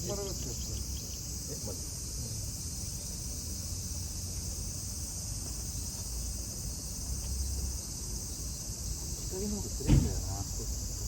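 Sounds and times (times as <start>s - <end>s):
cicadas droning: 0.0s - 11.0s.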